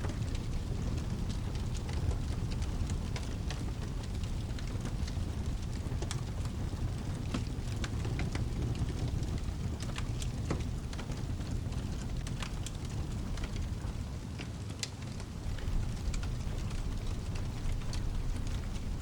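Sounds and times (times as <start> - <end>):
steady low rumble: 0.0 - 14.2, 15.2 - 19.0
wood fire crackling: 0.0 - 19.0.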